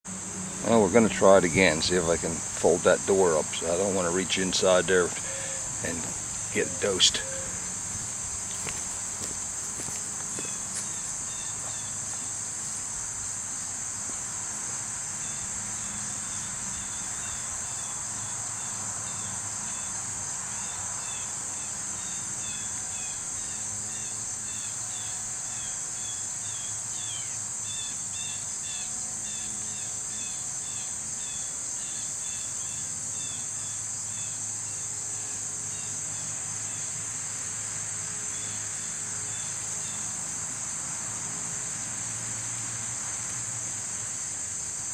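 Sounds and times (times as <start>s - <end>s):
insect chorus drone: 0.0s - 44.9s.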